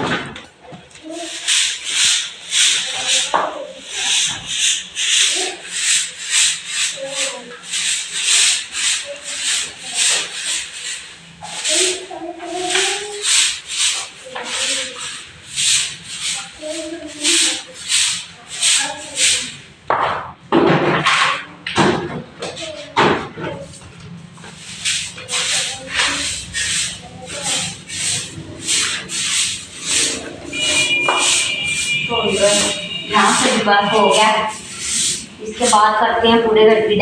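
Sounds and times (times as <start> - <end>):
broom sweeping concrete stairs: 0.9 - 20.0, 22.5 - 36.4.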